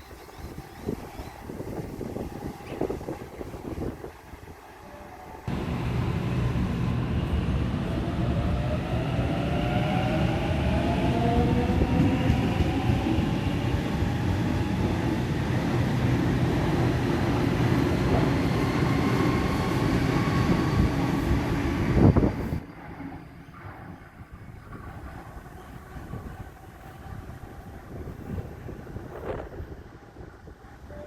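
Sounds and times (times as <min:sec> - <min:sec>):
train wheels rumbling on rail: 0:05.5 - 0:31.0.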